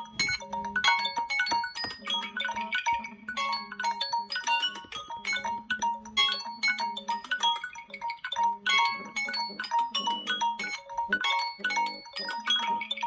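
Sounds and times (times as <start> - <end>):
marimba-like chime melodies: 0.0 - 13.0.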